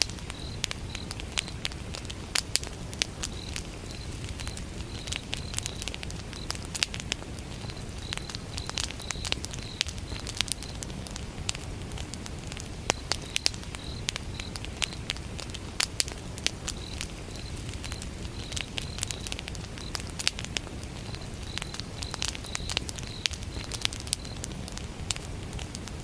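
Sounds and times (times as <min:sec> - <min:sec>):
crickets chirping: 0:00.0 - 0:11.8, 0:12.4 - 0:25.1
wood fire crackling: 0:00.0 - 0:26.0.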